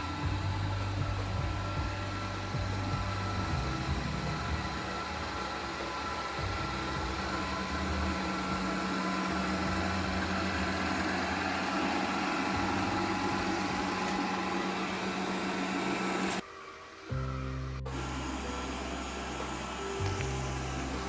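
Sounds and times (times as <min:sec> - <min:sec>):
robot vacuum cleaner hum: 0:00.0 - 0:21.0.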